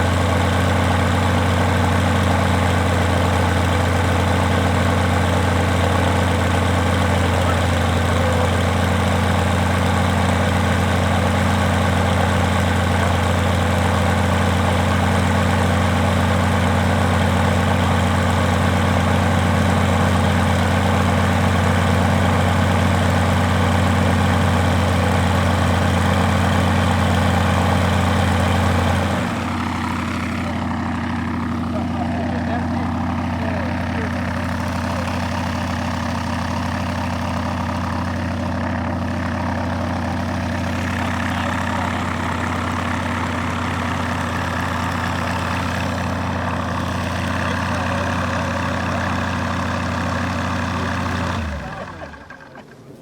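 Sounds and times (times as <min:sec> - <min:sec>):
radial engine running: 0:00.0 - 0:53.0.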